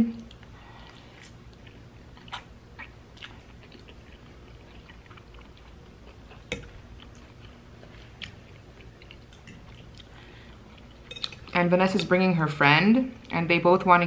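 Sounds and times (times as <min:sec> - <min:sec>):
person chewing: 0:00.2 - 0:11.5.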